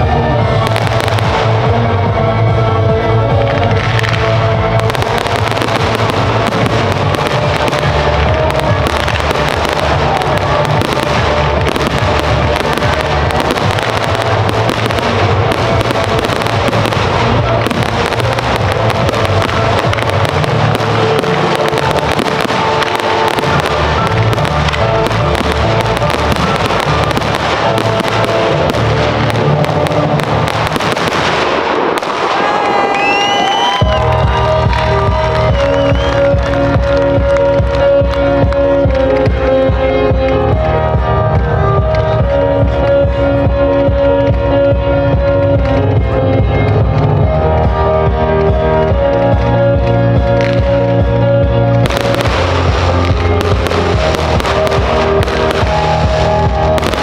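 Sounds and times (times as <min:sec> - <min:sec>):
fireworks popping and crackling: 0:00.0 - 0:01.9, 0:03.3 - 0:57.0
loud music: 0:00.0 - 0:57.0.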